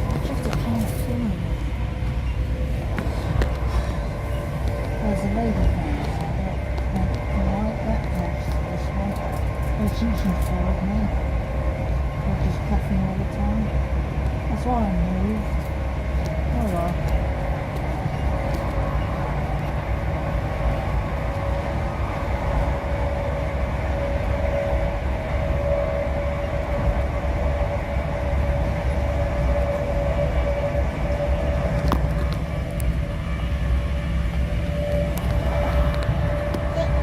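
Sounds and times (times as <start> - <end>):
constant whine: 0.0 - 37.0
train rumbling: 0.0 - 37.0.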